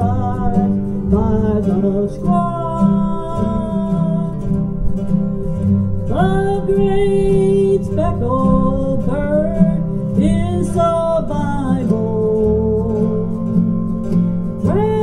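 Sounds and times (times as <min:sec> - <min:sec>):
woman singing: 0:00.0 - 0:04.7, 0:06.1 - 0:13.4, 0:14.6 - 0:15.0
strummed acoustic guitar: 0:00.0 - 0:15.0.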